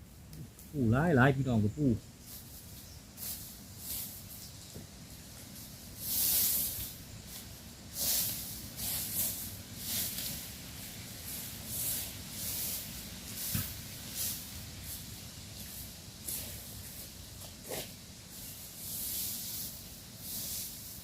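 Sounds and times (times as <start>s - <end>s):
swishing through vegetation: 0.7s - 21.0s.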